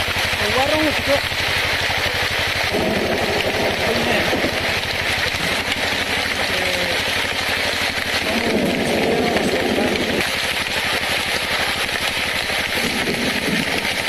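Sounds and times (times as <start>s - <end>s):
power tiller engine running: 0.0s - 14.0s.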